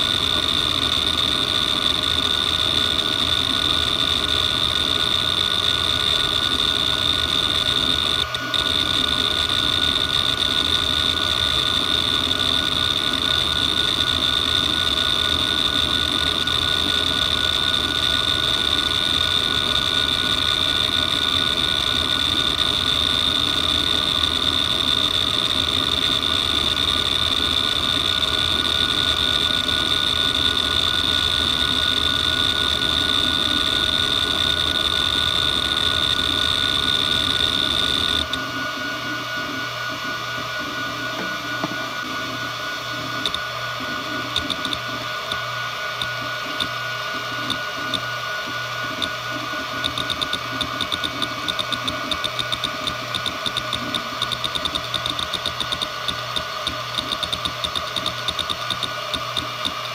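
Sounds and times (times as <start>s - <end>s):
hard drive spindle whine: 0.0s - 59.9s.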